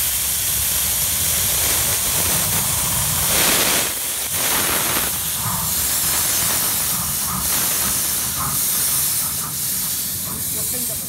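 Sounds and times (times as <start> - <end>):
steam hissing from drain cocks: 0.0 - 11.0.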